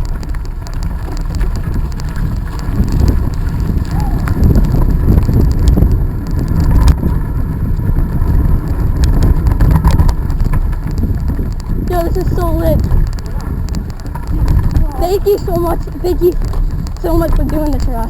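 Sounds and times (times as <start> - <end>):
bicycle clicks and rattles: 0.0 - 18.0
wind buffeting microphone: 0.0 - 18.0.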